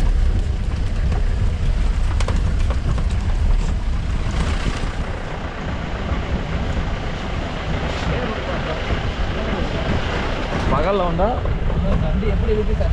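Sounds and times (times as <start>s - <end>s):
vehicle rumble: 0.0s - 12.9s
wind buffeting microphone: 0.0s - 12.9s.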